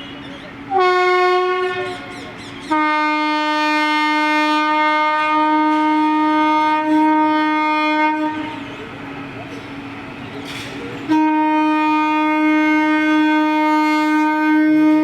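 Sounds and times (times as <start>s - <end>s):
locomotive horn blasts: 0.0s - 8.6s, 11.0s - 15.0s.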